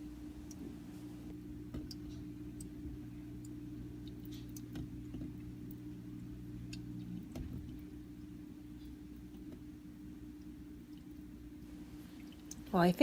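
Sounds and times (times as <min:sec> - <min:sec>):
aquarium pump humming: 0:00.0 - 0:13.0.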